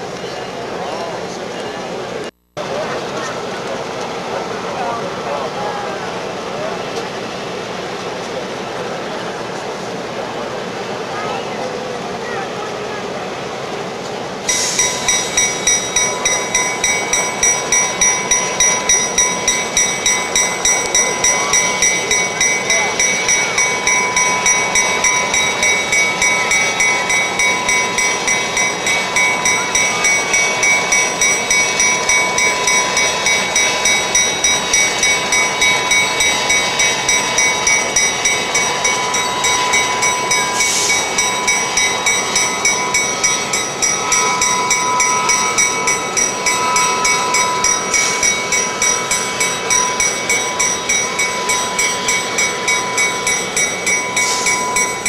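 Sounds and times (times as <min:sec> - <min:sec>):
diesel train passing: 0:00.0 - 0:55.0.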